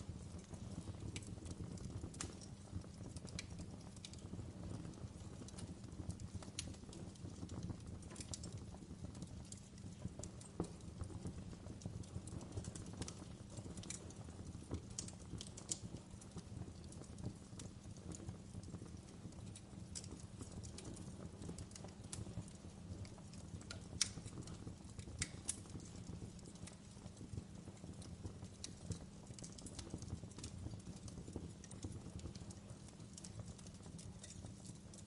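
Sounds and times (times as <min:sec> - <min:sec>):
low rumble of flames: 0:00.0 - 0:35.0
wood fire crackling and popping: 0:00.0 - 0:35.0.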